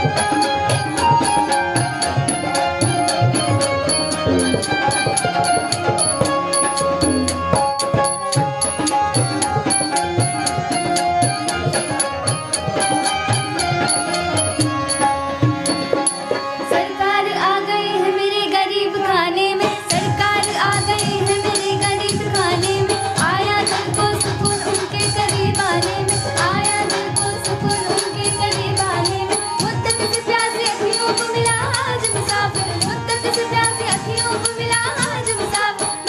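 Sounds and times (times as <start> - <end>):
ornamented melody line: 0.0 - 36.0
tabla playing a rhythm: 0.0 - 36.0.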